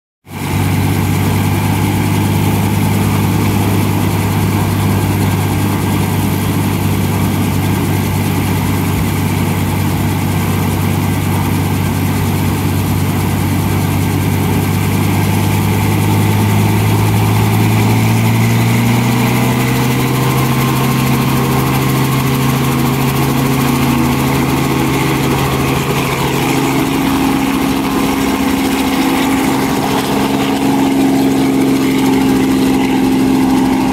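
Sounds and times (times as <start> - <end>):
helicopter engine and rotor: 0.3 - 33.9.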